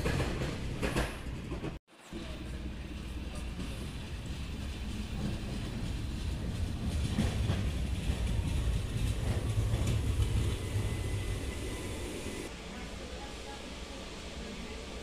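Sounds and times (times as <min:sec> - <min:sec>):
metro train rumbling into station: 0:00.0 - 0:15.0.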